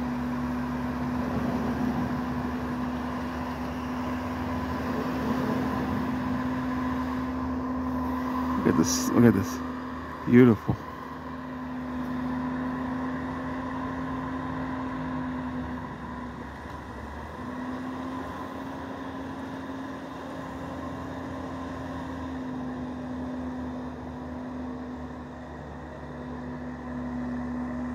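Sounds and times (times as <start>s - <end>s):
snowblower whine: 0.0s - 27.9s
tractor engine hum: 0.0s - 27.9s.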